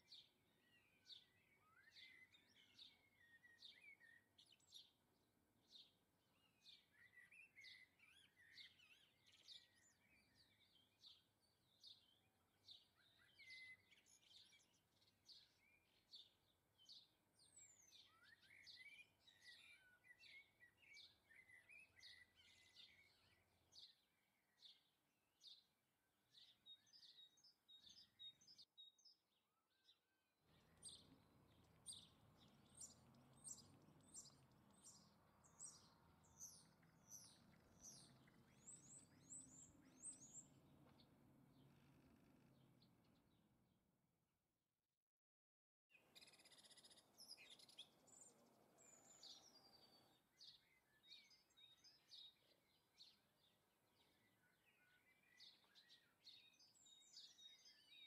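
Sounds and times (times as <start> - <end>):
small birds chirping: 0.0 - 43.8, 45.9 - 58.0.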